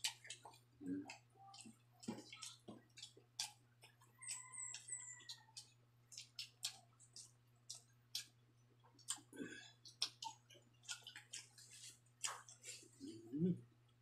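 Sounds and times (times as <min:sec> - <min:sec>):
wet mouth clicks chewing rice: 0:00.0 - 0:14.0.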